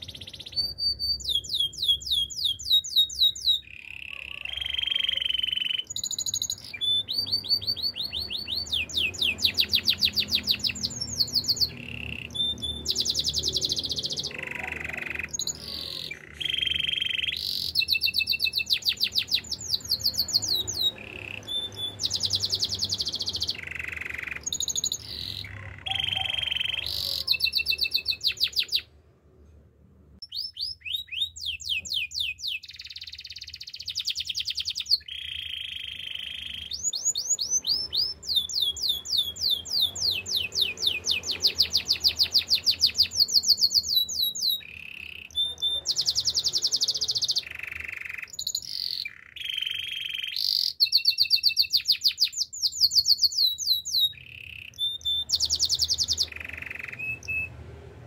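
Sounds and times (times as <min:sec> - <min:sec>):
canary singing trills: 0:00.0 - 0:29.0, 0:30.2 - 0:58.0.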